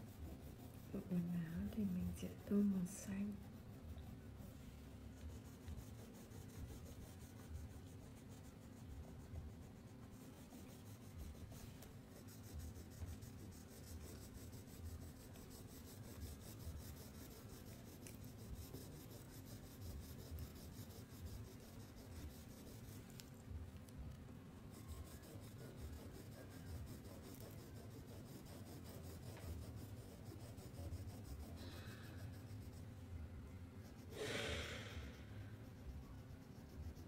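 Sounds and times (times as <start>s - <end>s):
crayon rubbing on paper: 0.0s - 23.3s, 24.6s - 32.9s, 35.6s - 37.0s.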